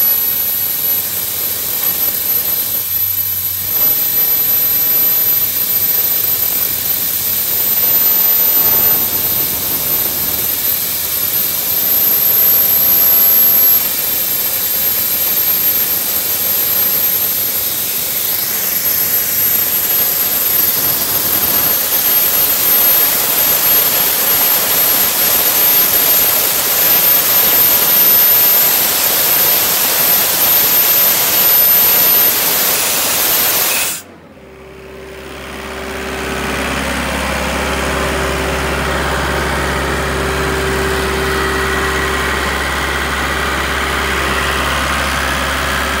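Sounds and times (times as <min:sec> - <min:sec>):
air compressor rushing noise: 0:00.0 - 0:46.0
engine humming at idle: 0:00.1 - 0:32.2, 0:34.0 - 0:46.0.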